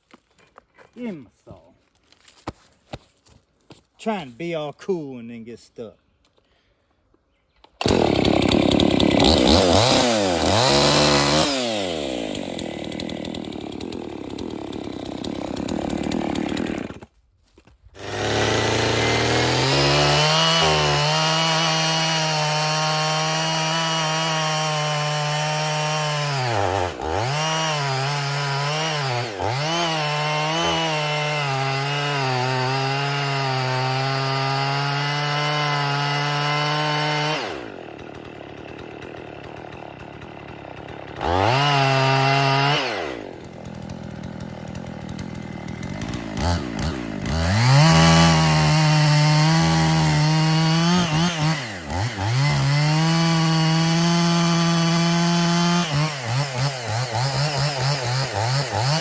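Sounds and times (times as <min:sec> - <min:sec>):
chainsaw revving and cutting log: 0:07.8 - 0:17.2, 0:18.0 - 0:59.0.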